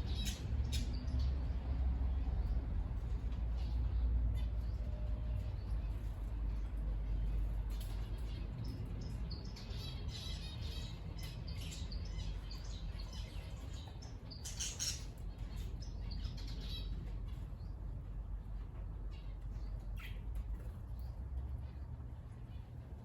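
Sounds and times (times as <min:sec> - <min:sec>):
cage birds chirping: 0:00.0 - 0:23.0.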